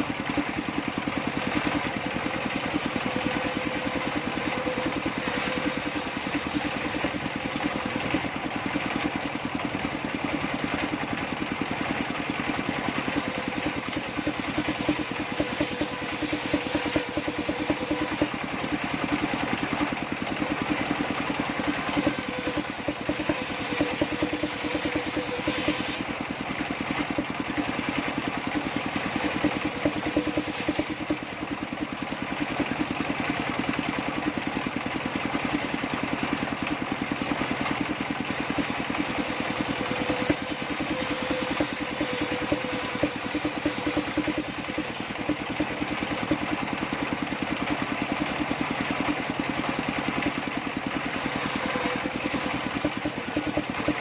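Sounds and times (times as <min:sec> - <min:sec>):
table saw running: 0:00.0 - 0:54.0.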